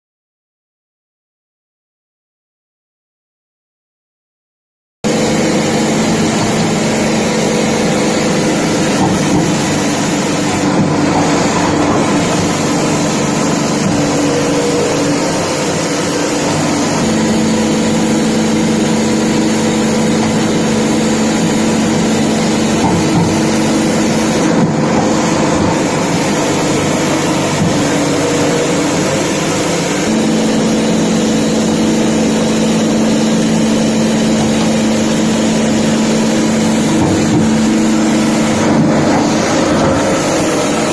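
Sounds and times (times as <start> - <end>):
machine clattering and whirring: 5.1 - 40.9
motor hum: 5.1 - 40.9.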